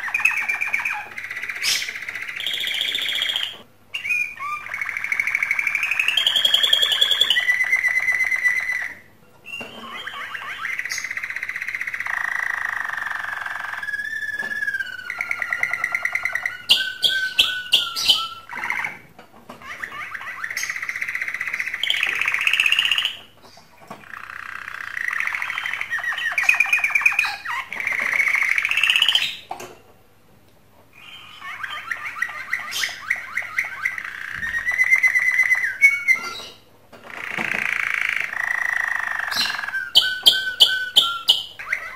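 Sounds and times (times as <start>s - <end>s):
canary singing trills: 0.0s - 29.5s, 30.9s - 41.9s.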